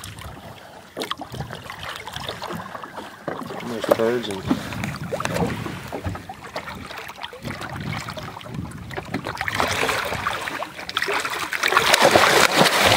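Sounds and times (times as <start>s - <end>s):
water splashing against boat hull: 0.0s - 12.9s.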